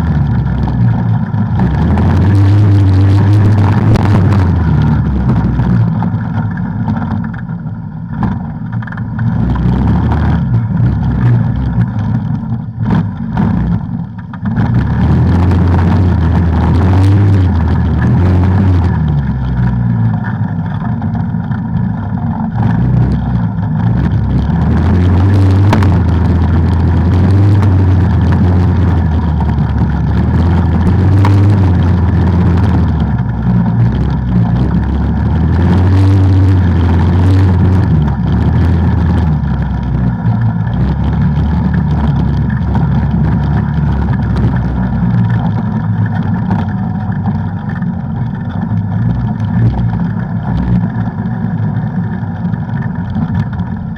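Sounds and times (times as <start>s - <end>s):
engine running under throttle: 0.0s - 53.9s.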